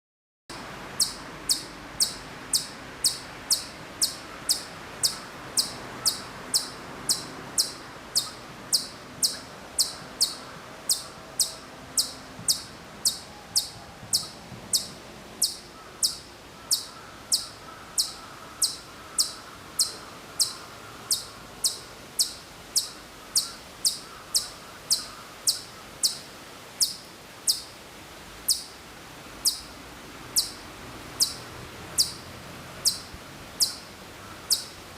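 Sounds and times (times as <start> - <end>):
chipmunk chirping: 0.9 - 27.7, 28.5 - 28.8, 29.4 - 29.7, 30.3 - 34.8.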